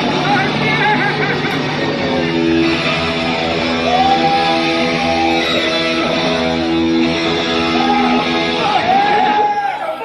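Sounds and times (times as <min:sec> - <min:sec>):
heavy metal electric guitar: 0:00.0 - 0:10.0.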